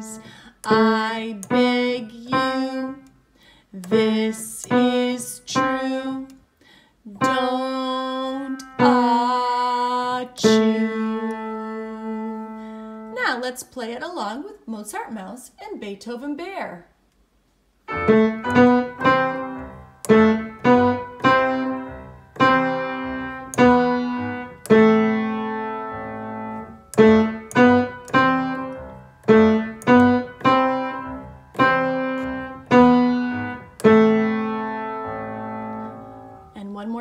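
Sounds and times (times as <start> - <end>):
piano melody: 0.0 - 3.0, 3.9 - 6.2, 7.2 - 13.2, 17.9 - 36.8.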